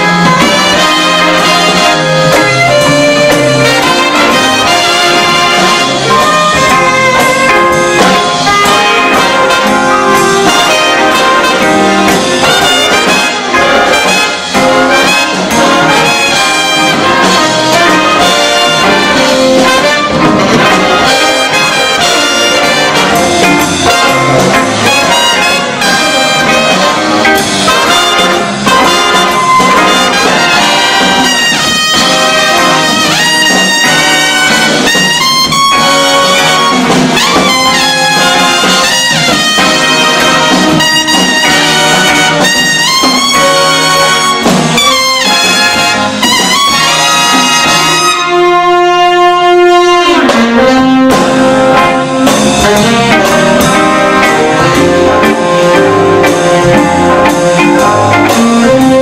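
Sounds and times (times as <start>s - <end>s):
jazz big band playing: 0.0s - 59.0s
tenor saxophone solo: 0.0s - 59.0s.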